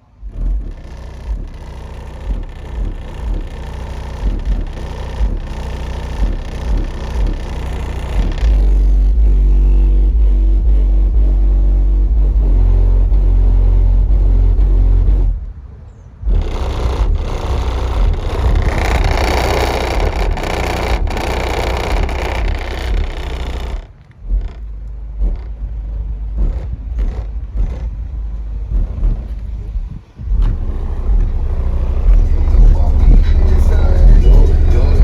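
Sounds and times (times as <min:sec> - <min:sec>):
bass-heavy music through subwoofer: 0:00.0 - 0:15.6, 0:16.2 - 0:35.0.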